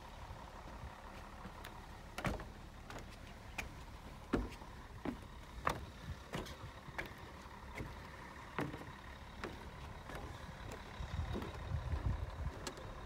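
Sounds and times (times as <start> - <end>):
low rumble: 0.0 - 13.0
footsteps on wooden planks: 0.6 - 13.0.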